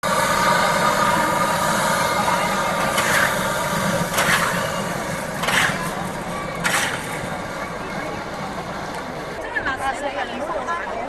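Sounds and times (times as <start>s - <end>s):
traffic hum: 0.0s - 10.7s
voices: 0.0s - 11.0s.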